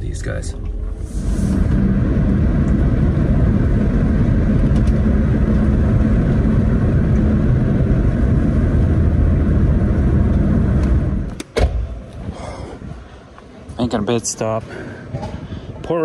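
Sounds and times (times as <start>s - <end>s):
vehicle cabin road rumble: 0.0s - 13.0s.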